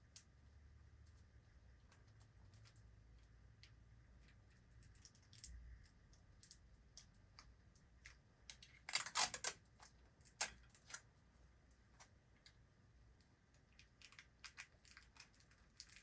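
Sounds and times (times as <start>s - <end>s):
small clicks of handling wires: 1.0s - 11.1s, 13.2s - 16.0s.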